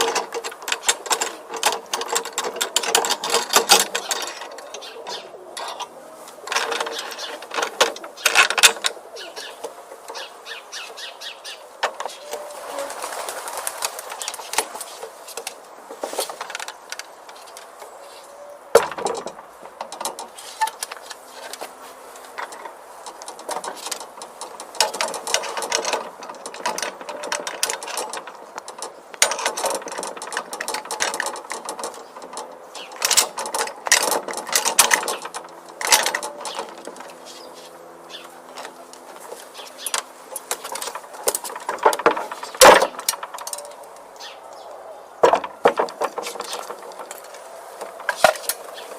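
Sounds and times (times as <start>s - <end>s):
lock parts clicking and rattling: 0.0s - 11.1s, 11.8s - 12.5s, 13.8s - 18.0s, 18.6s - 48.9s.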